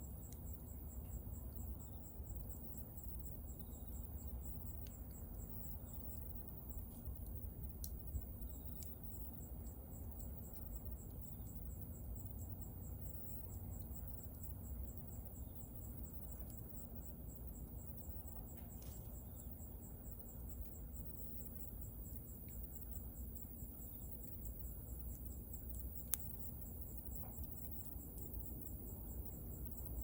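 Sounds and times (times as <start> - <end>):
cricket chirping: 0.0 - 30.0
low steady rumble: 0.0 - 30.0.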